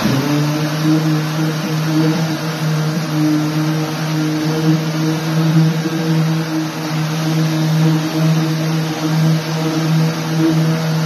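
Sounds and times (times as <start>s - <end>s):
drywall sander motor hum: 0.0s - 11.0s.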